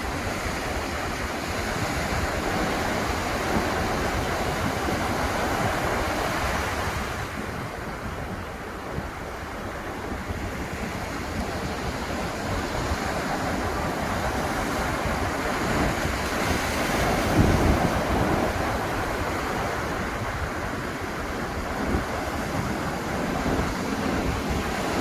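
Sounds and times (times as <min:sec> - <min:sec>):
waves washing onto beach: 0:00.0 - 0:25.0.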